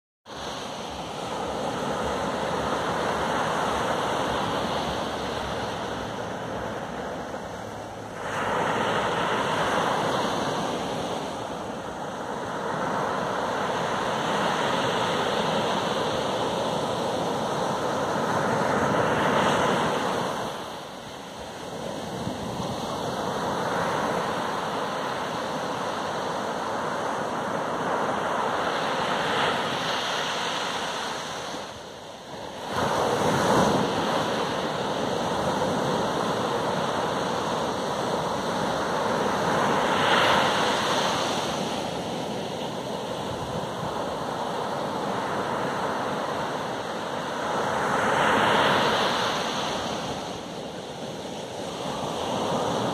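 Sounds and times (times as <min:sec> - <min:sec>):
ocean waves breaking on beach: 0:00.3 - 0:52.9.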